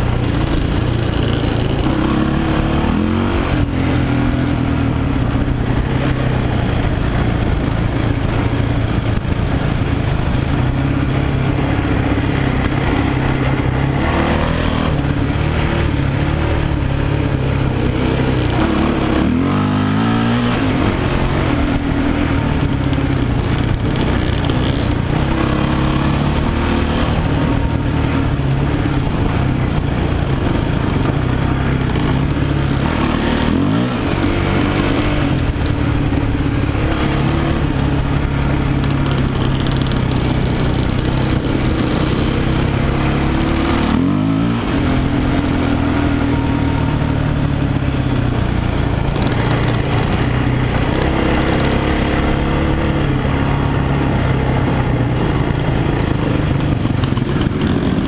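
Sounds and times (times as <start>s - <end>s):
off-road motorcycle engine running: 0.0s - 58.0s.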